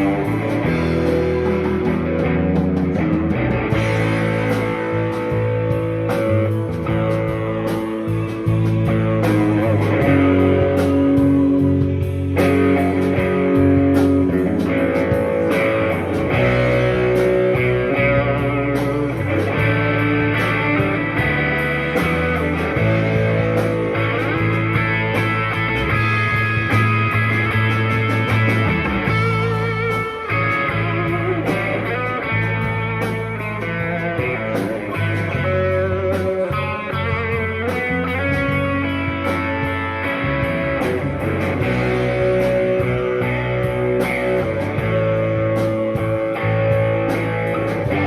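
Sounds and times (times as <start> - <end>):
drums: 0.0 - 48.0
electric guitar chords: 0.0 - 48.0.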